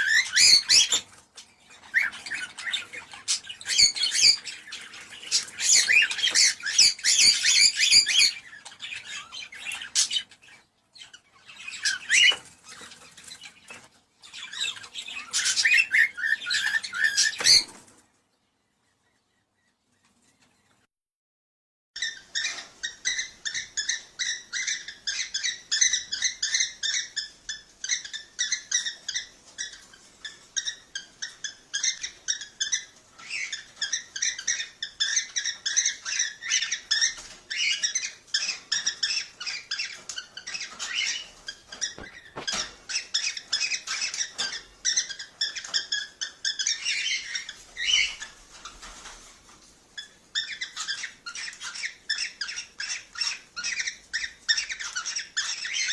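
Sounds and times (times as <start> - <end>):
cockatiels chirping and chattering: 0.0 - 18.1, 22.0 - 55.9.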